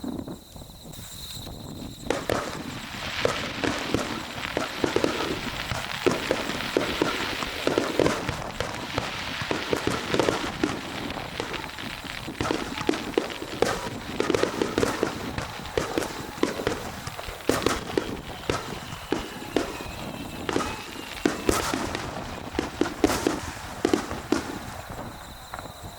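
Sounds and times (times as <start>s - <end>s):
fireworks popping and crackling: 0.0s - 25.9s
steady hiss: 0.0s - 25.9s.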